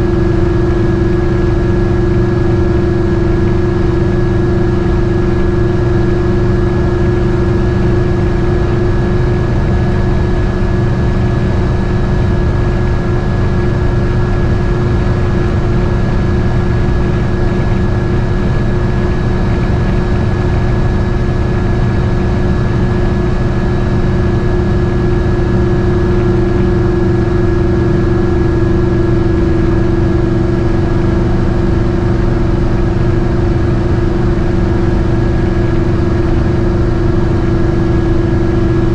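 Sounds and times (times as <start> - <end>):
constant whine: 0.0 - 38.9
engine drone inside cab: 0.0 - 38.9.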